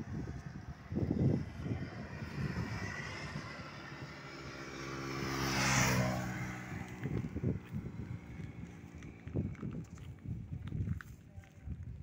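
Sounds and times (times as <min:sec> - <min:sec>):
engine passing by: 0:00.0 - 0:10.7.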